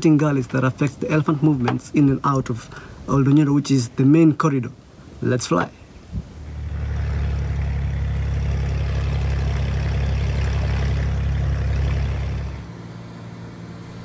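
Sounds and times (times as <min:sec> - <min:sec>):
light aircraft engine hum: 0:00.0 - 0:14.0.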